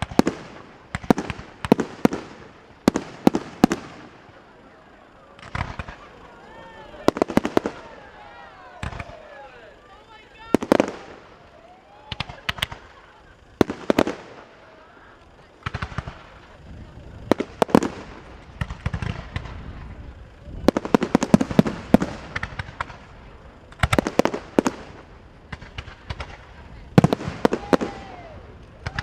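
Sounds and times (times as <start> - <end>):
fireworks bursting: 0.0 - 29.0
fireworks crackling: 0.0 - 29.0.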